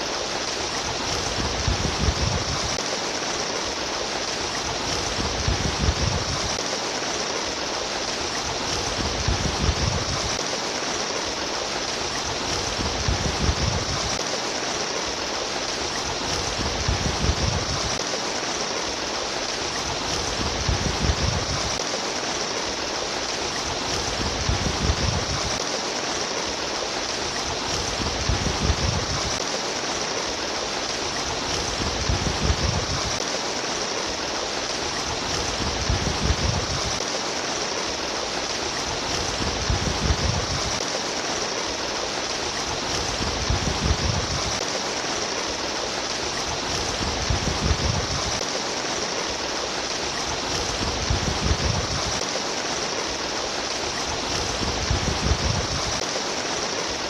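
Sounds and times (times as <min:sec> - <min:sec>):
stream water splashing: 0:00.0 - 0:57.0.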